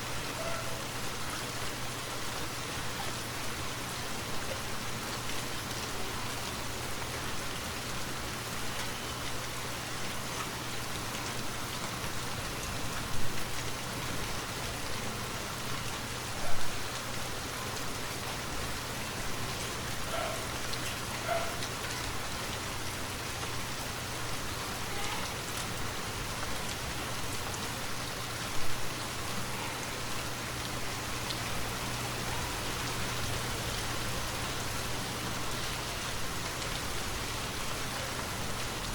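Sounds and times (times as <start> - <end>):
rain on forest canopy: 0.0 - 38.9.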